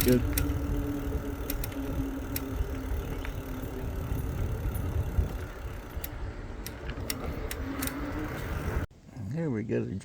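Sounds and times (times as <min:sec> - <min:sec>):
bike clicks and rattles: 0:00.0 - 0:08.8
electric motor hum: 0:00.0 - 0:08.9
wind rumbling on microphone: 0:00.0 - 0:08.9.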